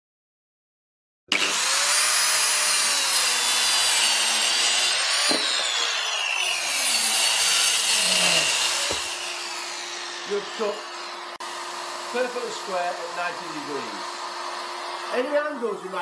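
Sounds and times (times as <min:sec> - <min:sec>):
circular saw cutting wood: 0:01.3 - 0:16.0.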